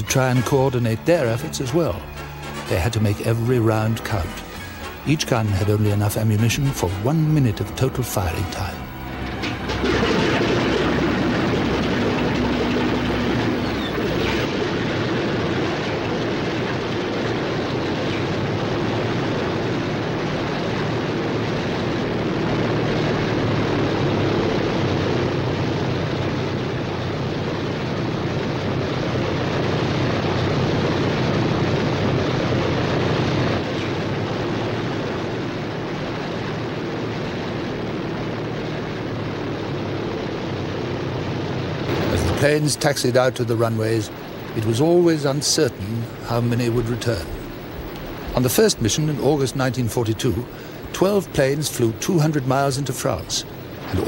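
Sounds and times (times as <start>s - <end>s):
piston aircraft engines droning: 0.0s - 54.0s.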